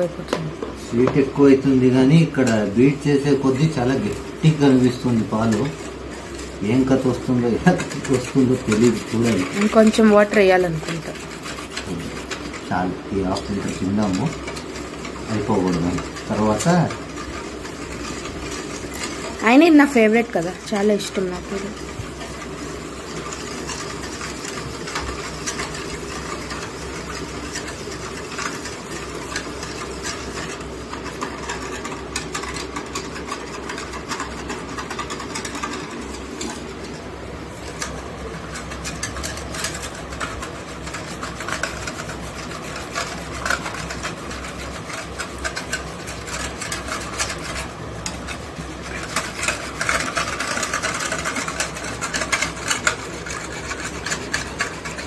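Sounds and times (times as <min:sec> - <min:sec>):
wire whisk scraping steel bowl: 0:00.9 - 0:55.0.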